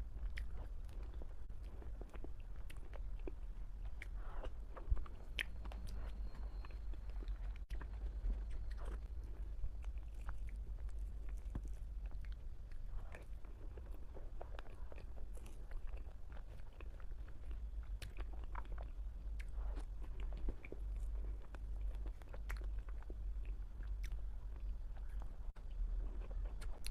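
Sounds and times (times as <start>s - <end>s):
close chewing and mouth sounds: 0.0s - 26.9s
steady low hum: 0.0s - 26.9s.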